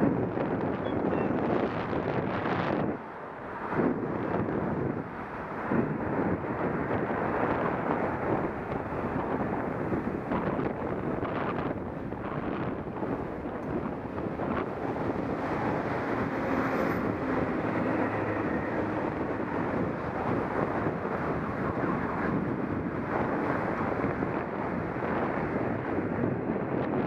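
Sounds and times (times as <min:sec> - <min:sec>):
street traffic hum: 0:00.0 - 0:27.0
wind rumbling on microphone: 0:00.0 - 0:27.0.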